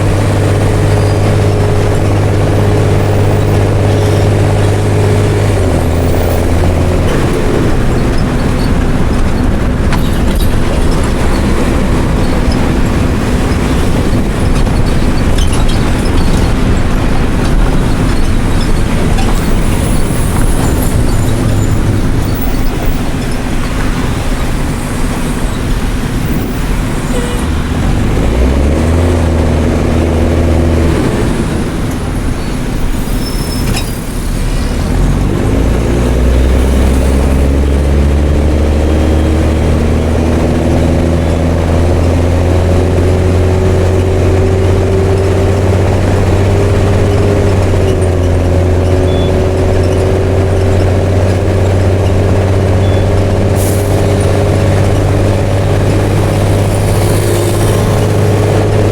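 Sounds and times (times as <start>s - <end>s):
bus diesel engine revving: 0.0s - 58.9s.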